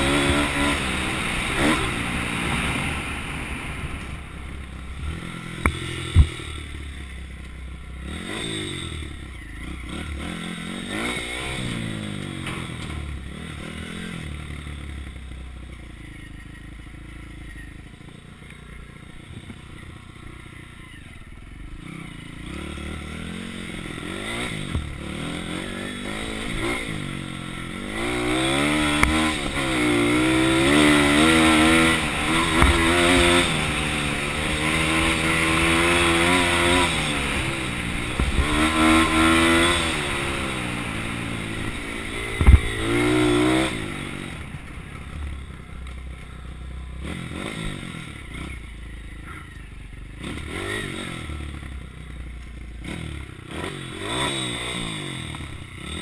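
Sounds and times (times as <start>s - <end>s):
motorbike engine revving: 0.0s - 18.1s, 19.0s - 56.0s.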